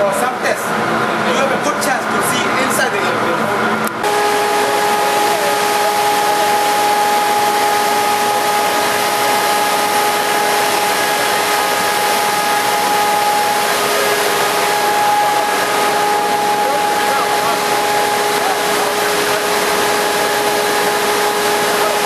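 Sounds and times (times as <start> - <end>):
engine room machinery drone: 0.0 - 22.0.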